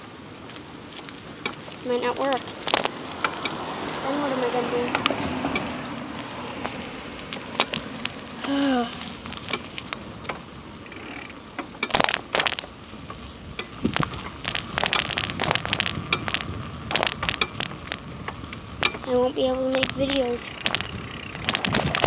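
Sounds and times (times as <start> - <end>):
bicycle tyres crackling over twigs: 0.0 - 22.0.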